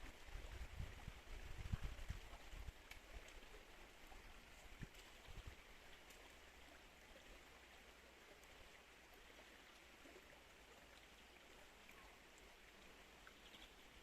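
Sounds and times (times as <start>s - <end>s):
faint river water flowing: 0.0s - 14.0s.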